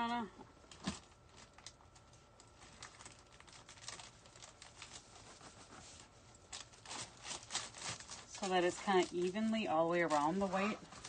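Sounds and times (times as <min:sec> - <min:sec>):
evergreen stems rustling: 0:01.2 - 0:11.0.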